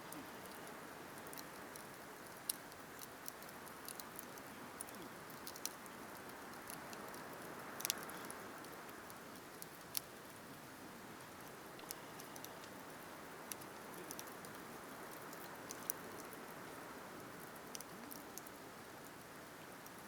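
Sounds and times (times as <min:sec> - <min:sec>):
burning wood crackling and popping: 0:00.0 - 0:20.0
campfire hissing: 0:00.0 - 0:20.0.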